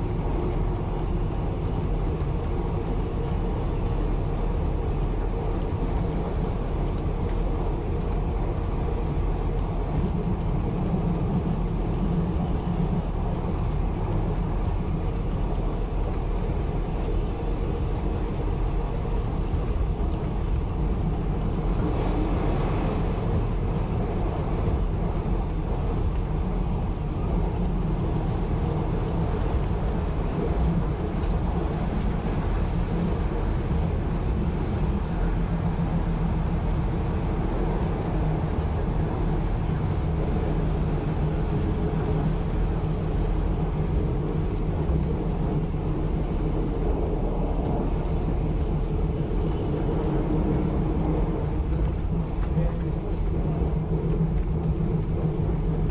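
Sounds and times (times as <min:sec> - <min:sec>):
railcar running on rails: 0:00.0 - 0:55.9.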